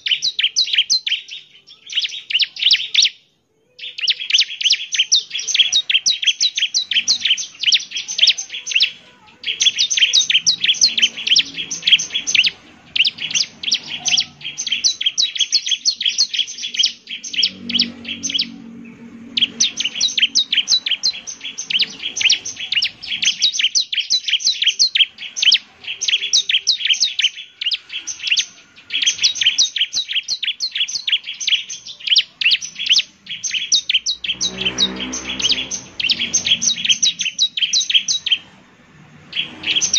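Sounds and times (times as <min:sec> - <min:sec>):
bird singing high chattering notes: 0:00.0 - 0:39.9.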